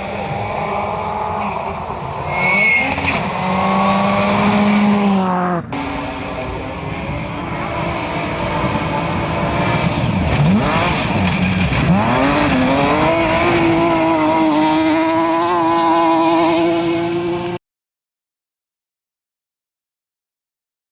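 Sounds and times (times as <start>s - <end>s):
rally car engine revving: 0.0s - 17.6s.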